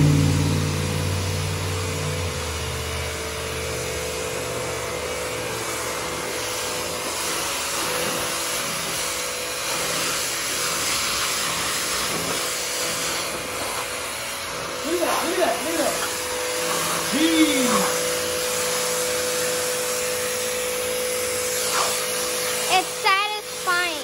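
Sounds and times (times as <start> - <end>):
pressure washer motor humming: 0.0 - 24.0
water jet spraying on concrete: 0.0 - 24.0.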